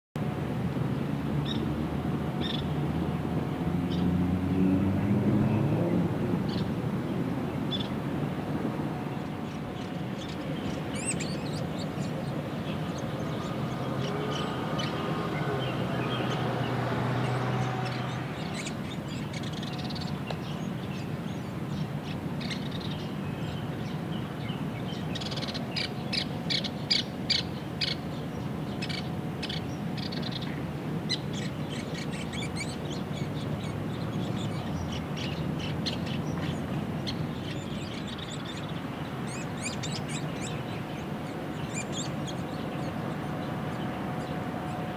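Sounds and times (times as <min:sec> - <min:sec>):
steady background hiss: 0:05.8 - 0:44.9.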